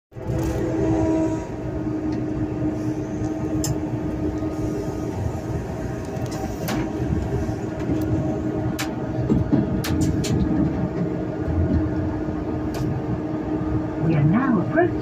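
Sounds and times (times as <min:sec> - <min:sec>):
train rumbling at low speed: 0:00.1 - 0:15.0.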